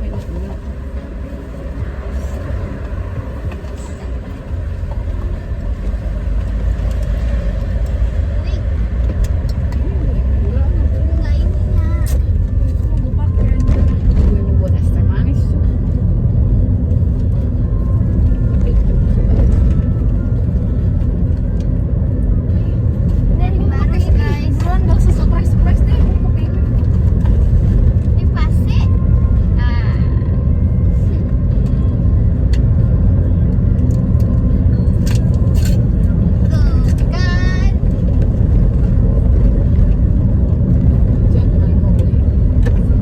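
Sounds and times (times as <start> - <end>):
steady low rumble: 0.0 - 43.0.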